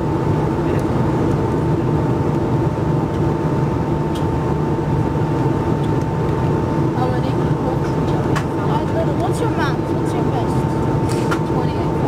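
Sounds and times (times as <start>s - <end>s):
aircraft cabin roar: 0.0s - 12.0s
thin steady whine: 0.0s - 12.0s.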